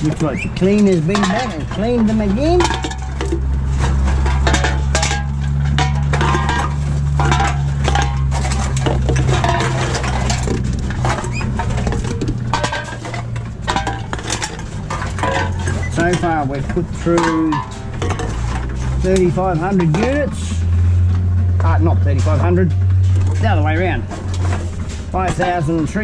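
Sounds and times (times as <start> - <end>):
cans and bottles clinking: 0.0 - 26.0.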